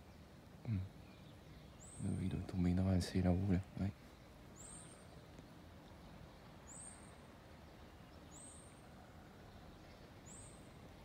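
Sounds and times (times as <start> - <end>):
faint low background rumble: 0.0 - 11.0.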